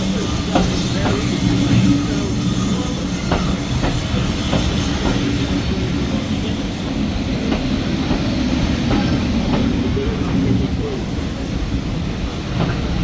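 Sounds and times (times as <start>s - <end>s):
railway carriage rumbling on track: 0.0s - 13.0s.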